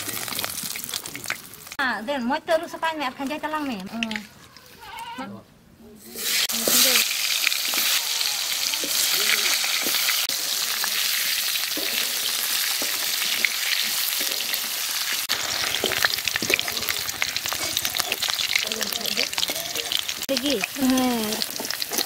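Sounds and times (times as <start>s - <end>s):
potatoes sizzling in oil: 0.0s - 1.8s, 6.0s - 22.0s.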